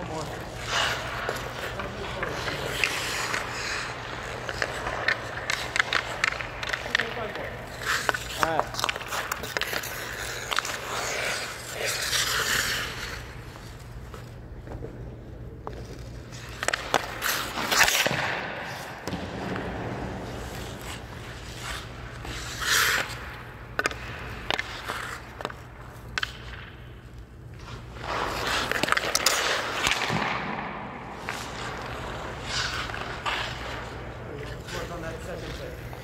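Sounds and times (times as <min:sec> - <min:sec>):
clacks of stick and puck: 0:00.0 - 0:36.0
skate blades scraping ice: 0:00.0 - 0:36.0.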